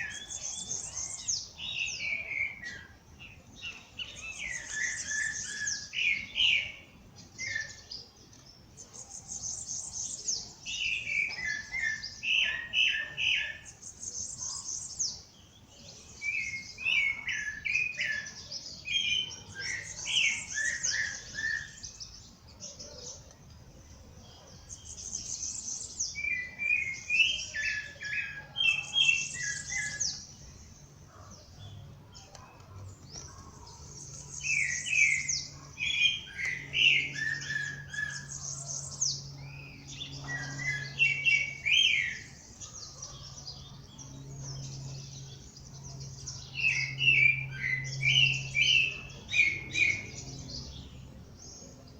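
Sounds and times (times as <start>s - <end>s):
songbirds trilling: 0.0s - 51.9s.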